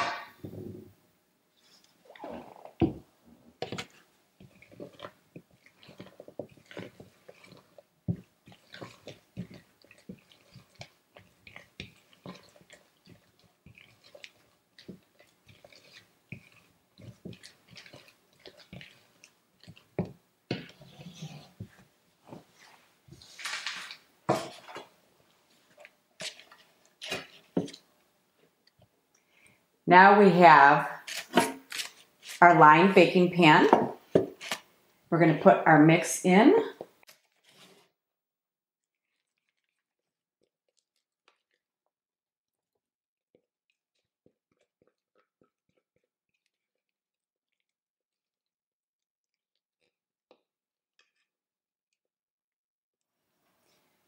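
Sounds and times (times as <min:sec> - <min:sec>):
spatula squelching and scraping batter: 0:01.5 - 0:29.7, 0:30.4 - 0:37.9, 0:38.8 - 0:47.8.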